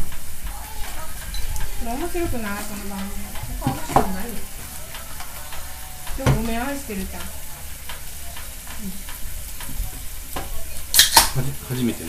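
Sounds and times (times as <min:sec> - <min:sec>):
food sizzling on hot plate: 0:00.0 - 0:12.0.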